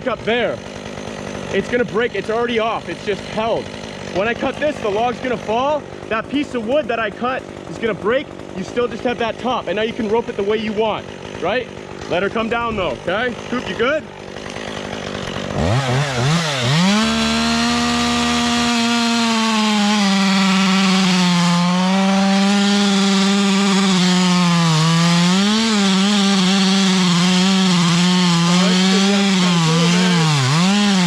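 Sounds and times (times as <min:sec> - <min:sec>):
chainsaw cutting log: 0:00.0 - 0:31.0.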